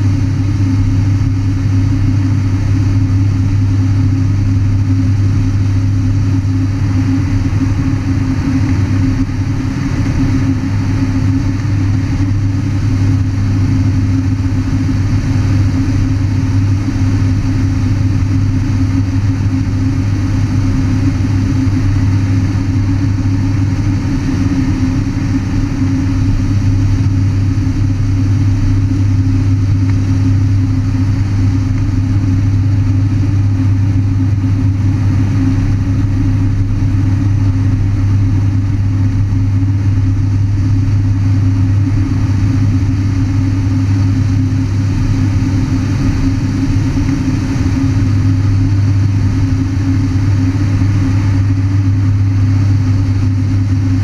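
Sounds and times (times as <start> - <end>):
turboprop engine drone: 0.0 - 54.0.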